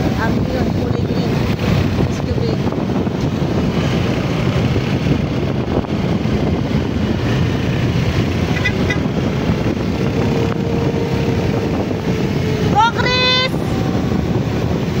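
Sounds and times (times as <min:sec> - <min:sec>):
vehicle engine rumble: 0:00.0 - 0:15.0
wind rumble: 0:00.0 - 0:15.0.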